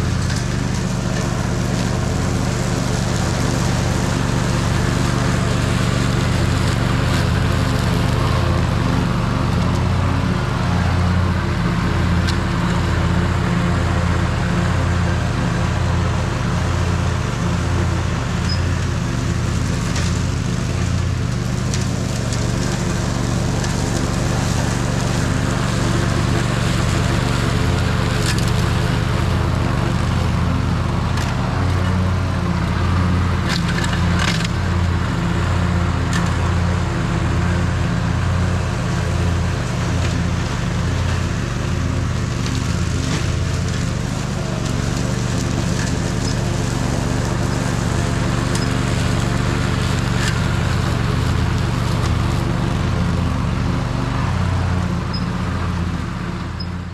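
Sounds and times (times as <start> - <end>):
mower engine humming: 0.0 - 56.9.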